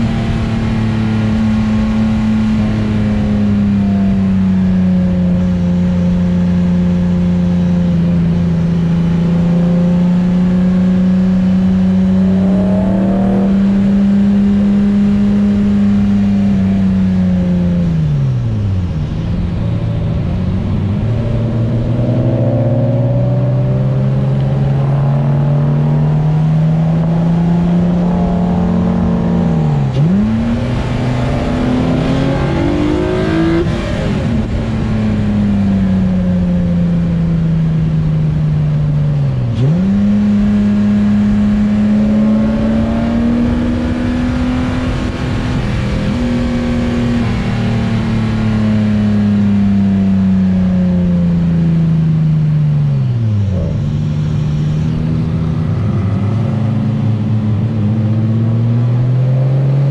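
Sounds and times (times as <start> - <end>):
car engine on track lap: 0.0 - 59.9.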